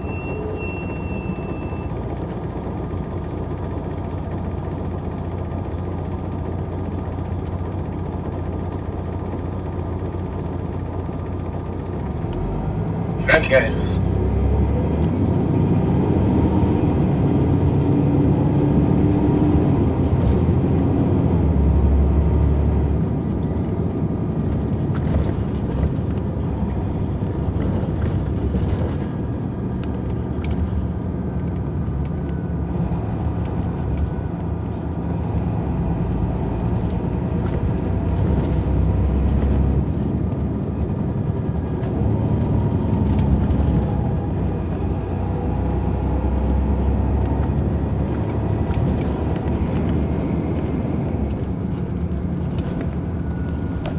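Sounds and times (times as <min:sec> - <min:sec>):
bus engine running: 0:00.0 - 0:53.9.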